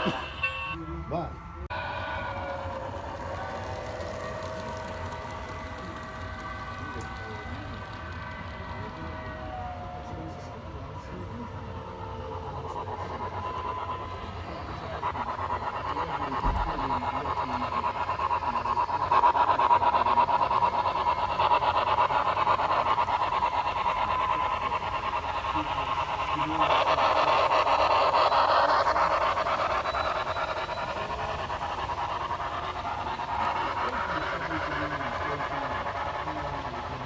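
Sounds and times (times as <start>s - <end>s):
model steam locomotive chuffing: 0.0s - 37.0s.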